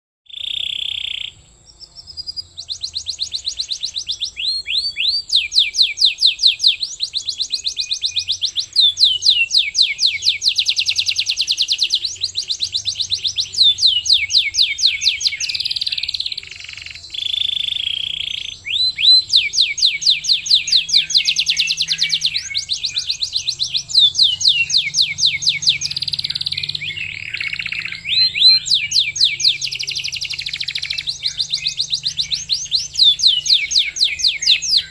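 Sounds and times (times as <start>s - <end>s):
canary singing fast trills: 0.2s - 34.9s.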